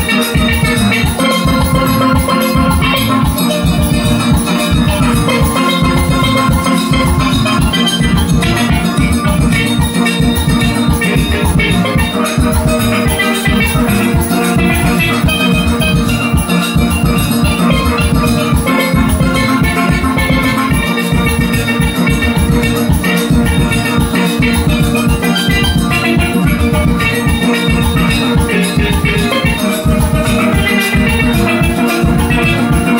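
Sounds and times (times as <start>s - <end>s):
steady drum beat: 0.0s - 32.9s
steel pan ensemble playing: 0.0s - 32.9s.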